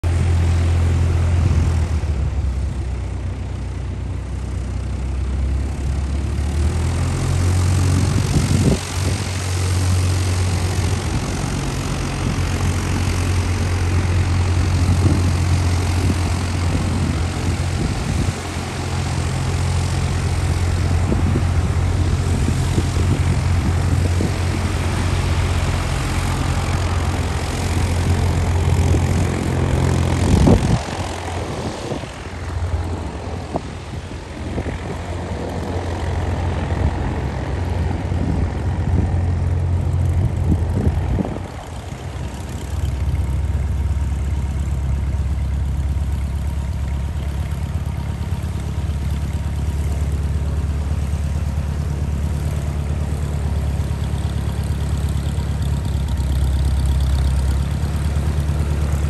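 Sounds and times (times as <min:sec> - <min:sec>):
propeller aircraft engine taxiing: 0:00.0 - 0:59.0.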